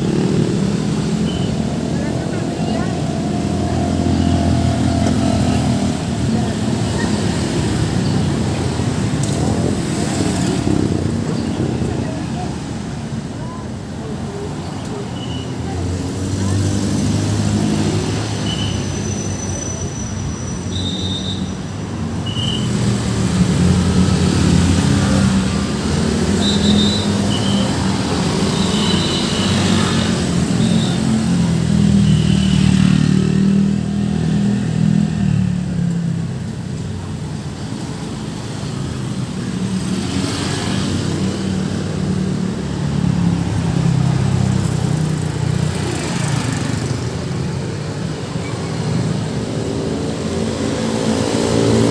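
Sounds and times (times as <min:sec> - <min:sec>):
motorcycles and cars passing: 0:00.0 - 0:20.8, 0:21.6 - 0:51.9.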